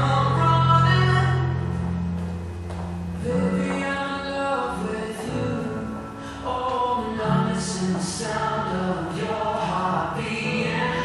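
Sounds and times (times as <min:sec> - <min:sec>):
recorded song with singing: 0:00.0 - 0:02.2, 0:03.1 - 0:11.0.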